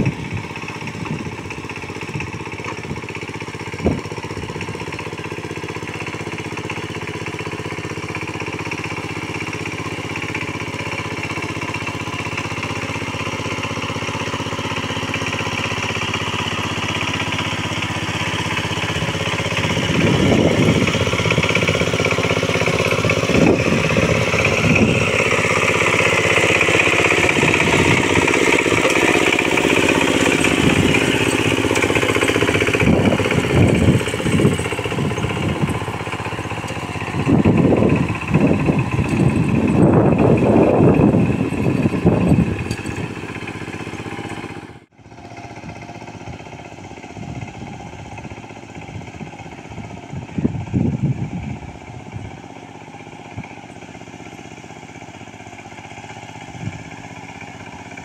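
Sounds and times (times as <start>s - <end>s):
diesel tiller engine running: 0.0s - 58.0s.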